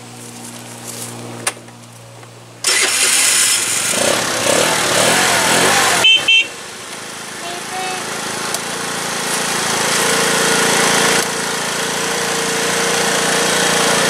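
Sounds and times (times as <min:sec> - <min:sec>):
scooter engine starting and running: 0:00.0 - 0:14.0.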